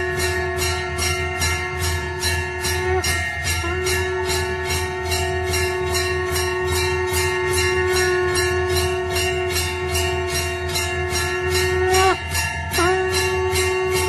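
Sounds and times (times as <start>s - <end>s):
jingling beat: 0.0s - 14.0s
long held melodic note: 0.0s - 14.0s.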